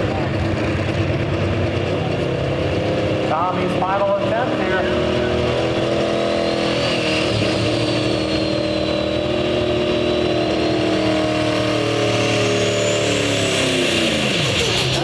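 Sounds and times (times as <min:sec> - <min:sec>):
diesel engine at high revs: 0:00.0 - 0:15.0.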